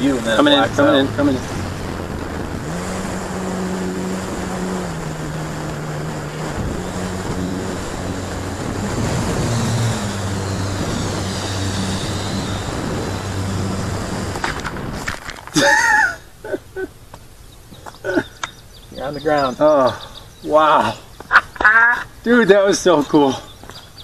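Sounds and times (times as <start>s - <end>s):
electric motor and propeller hum: 0.0s - 21.3s
rushing wind: 0.0s - 24.0s.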